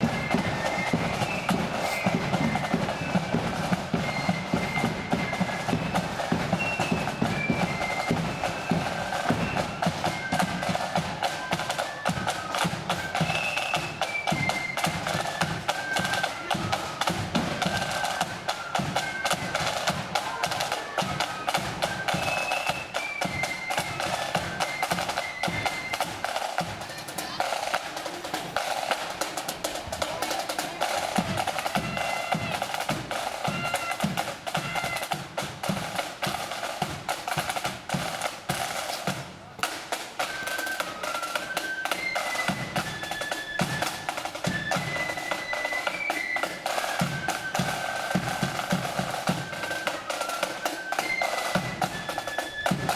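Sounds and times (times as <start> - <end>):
flutes playing melody: 0.0 - 52.9
snare drumming: 0.0 - 52.9.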